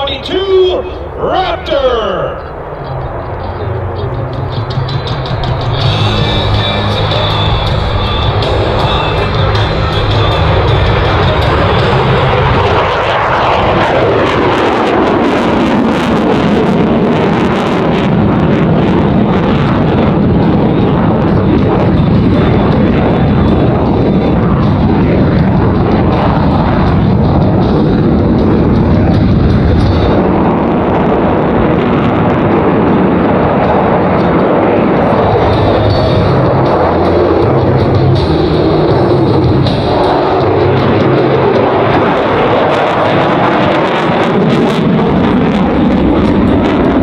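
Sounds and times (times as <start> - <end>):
fighter jet roaring: 0.0 - 47.0.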